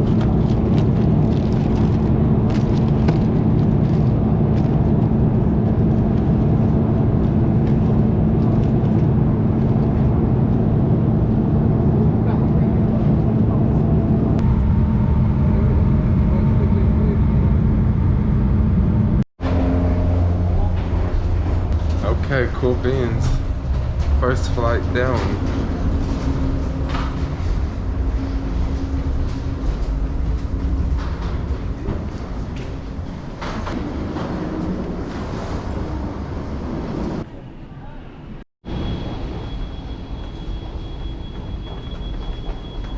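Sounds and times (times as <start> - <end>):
jet engine drone in cabin: 0.0 - 37.3
steady hum: 0.0 - 37.3.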